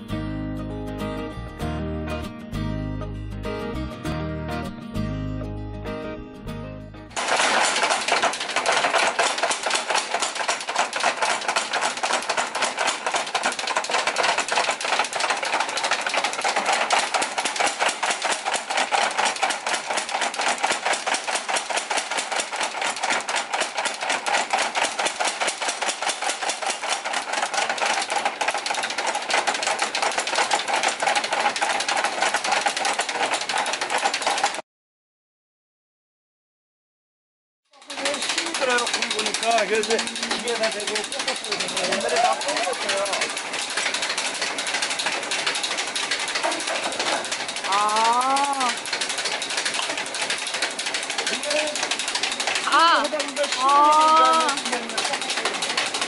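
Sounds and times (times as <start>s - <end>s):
power hammer pounding hot iron: 7.2s - 34.6s, 37.8s - 56.0s.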